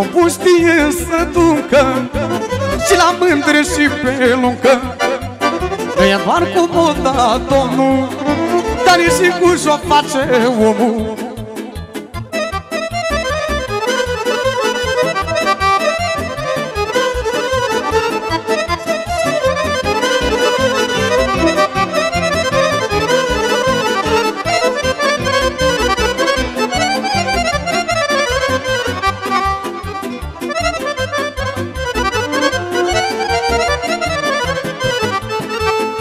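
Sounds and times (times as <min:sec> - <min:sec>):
accordion melody: 0:00.0 - 0:36.0
keyboard accompaniment with beat: 0:00.0 - 0:36.0.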